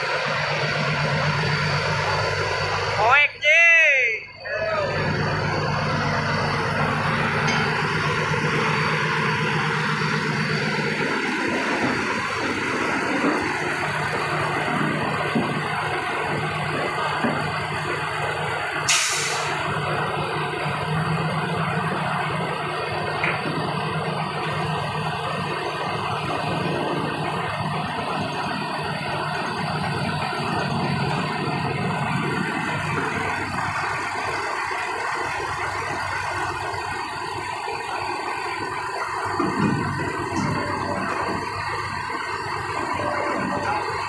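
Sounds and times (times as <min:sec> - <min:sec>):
heavy vehicle engine running: 0:00.0 - 0:03.4, 0:04.0 - 0:44.0.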